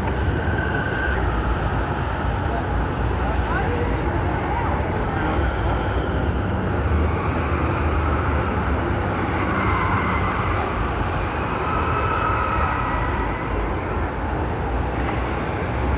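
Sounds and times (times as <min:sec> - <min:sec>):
low rumbling background noise: 0:00.0 - 0:15.9.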